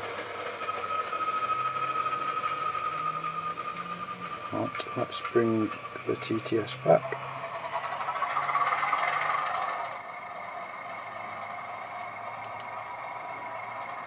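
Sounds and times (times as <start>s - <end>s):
model locomotive diesel engine sound: 0.0s - 14.0s.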